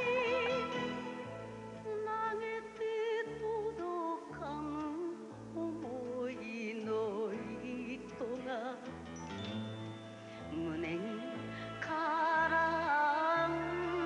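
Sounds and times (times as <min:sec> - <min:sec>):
woman singing with vibrato: 0:00.0 - 0:08.9, 0:10.4 - 0:14.0.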